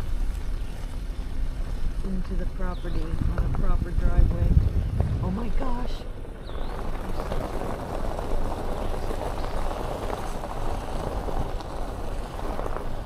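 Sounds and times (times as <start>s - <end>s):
low road rumble: 0.0s - 13.0s
tyres crunching on gravel: 0.0s - 13.0s.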